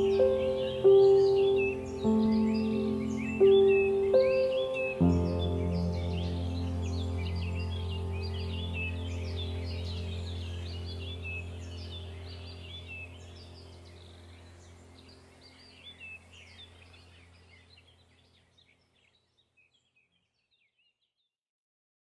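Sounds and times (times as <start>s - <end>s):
low steady hum: 0.0s - 18.4s
small birds chirping: 0.0s - 21.3s.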